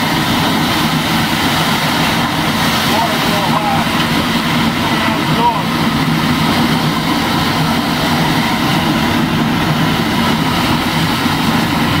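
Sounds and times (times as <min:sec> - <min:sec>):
steam locomotive running clatter: 0:00.0 - 0:12.0.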